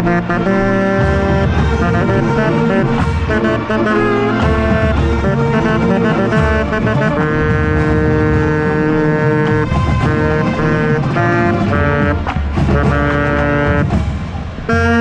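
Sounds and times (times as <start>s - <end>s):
tenor saxophone: 0.0s - 14.0s, 14.7s - 15.0s
marching band playing: 0.0s - 15.0s
pounding low drums: 0.0s - 15.0s.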